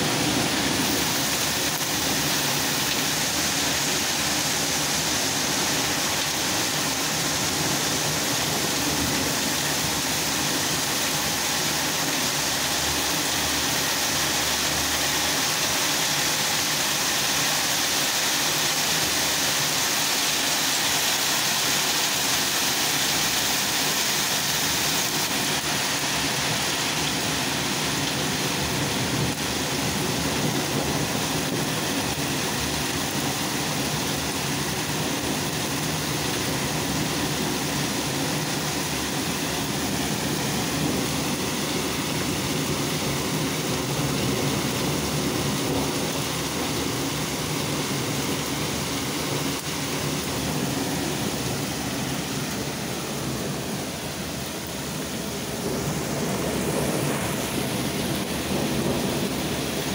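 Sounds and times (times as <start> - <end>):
heavy hail falling: 0.0 - 59.9.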